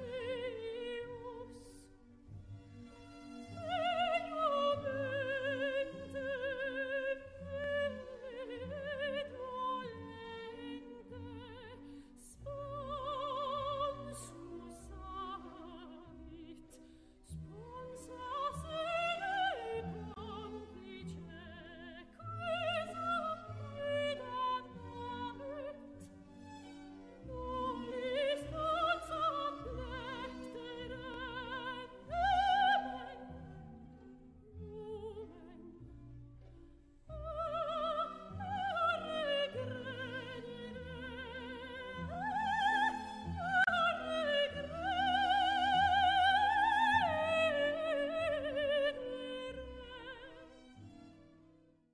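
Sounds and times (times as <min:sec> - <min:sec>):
operatic soprano singing: 0:00.0 - 0:02.1, 0:03.5 - 0:26.1, 0:27.2 - 0:36.0, 0:37.0 - 0:50.6.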